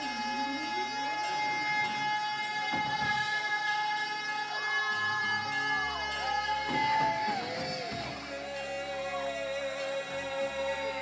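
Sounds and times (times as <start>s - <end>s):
bass line: 0.0s - 11.0s
drumming: 0.0s - 11.0s.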